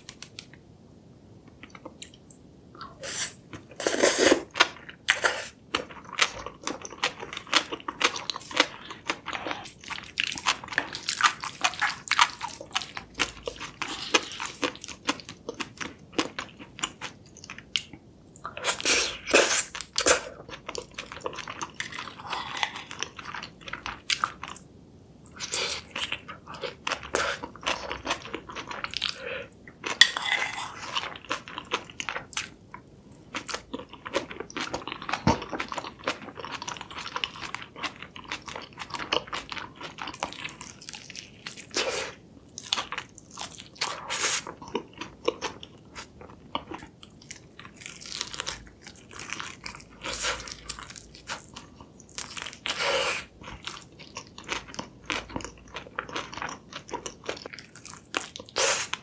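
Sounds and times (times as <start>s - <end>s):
person chewing food: 1.6s - 24.6s, 25.2s - 59.0s.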